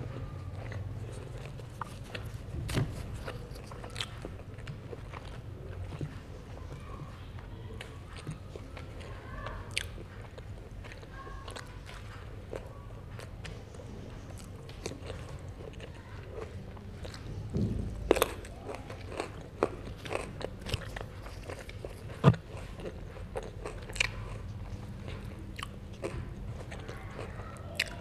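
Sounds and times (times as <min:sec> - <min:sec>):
wet chewing clicks: 0:00.0 - 0:28.0.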